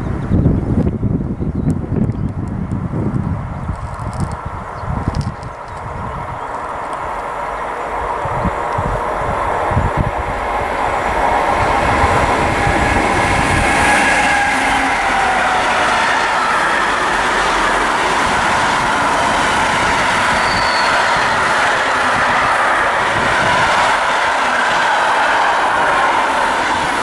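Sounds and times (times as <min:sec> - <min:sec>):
freight train wheels rumbling on rail: 0:00.0 - 0:27.0
wheels whining: 0:03.8 - 0:27.0.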